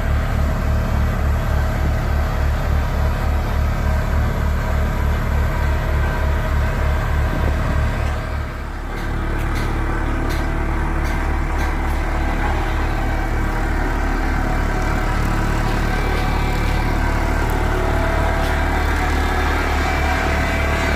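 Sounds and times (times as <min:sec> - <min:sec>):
diesel engine droning: 0:00.0 - 0:20.9.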